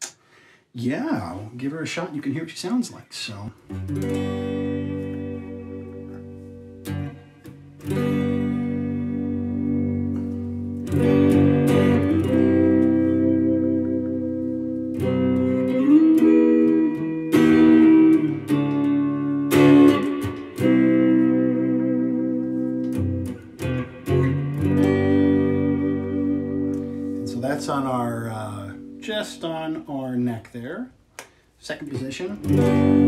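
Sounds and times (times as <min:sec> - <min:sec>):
clean electric guitar chords: 0:03.7 - 0:29.8, 0:32.4 - 0:33.0.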